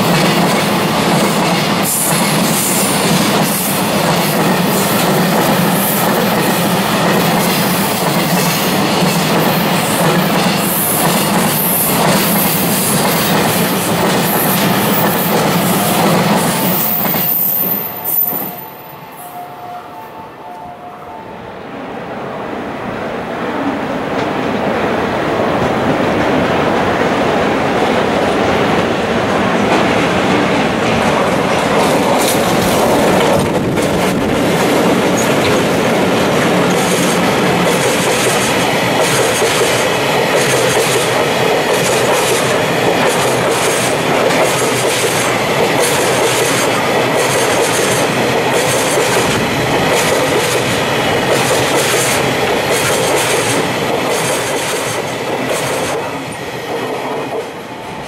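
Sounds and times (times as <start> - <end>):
electric locomotives passing: 0.0 - 58.0.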